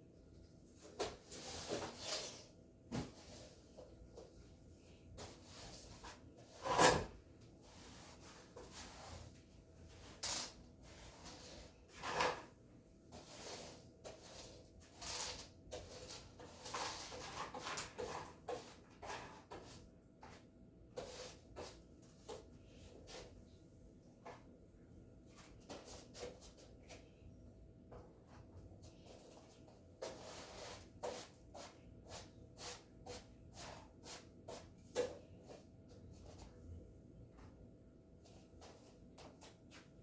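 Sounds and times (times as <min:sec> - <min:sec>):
broom sweeping floor: 0:00.7 - 0:24.5, 0:25.2 - 0:27.3, 0:28.1 - 0:37.6, 0:38.2 - 0:40.0.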